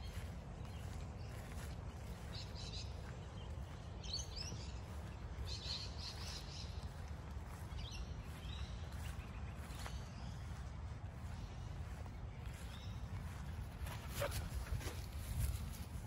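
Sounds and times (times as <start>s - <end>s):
wild birds chirping: 0.0s - 15.8s.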